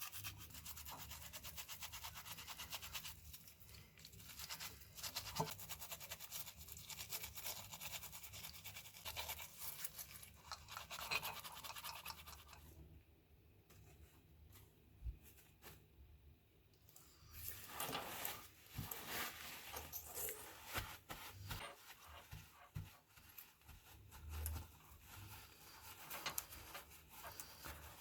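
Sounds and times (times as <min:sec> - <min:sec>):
rapid brushing strokes: 0:00.0 - 0:12.7, 0:17.5 - 0:28.0.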